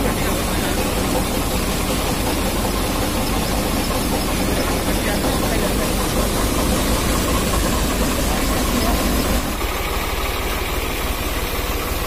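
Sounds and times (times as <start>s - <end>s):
fan drum whirring: 0.0s - 12.0s
tractor engine rumbling: 0.0s - 12.0s.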